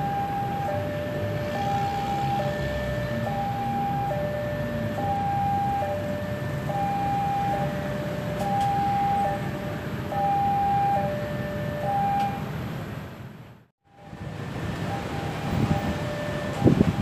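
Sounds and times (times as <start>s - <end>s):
two-tone crossing warning alarm: 0.0s - 12.5s, 13.8s - 17.0s
low traffic rumble: 0.0s - 17.0s.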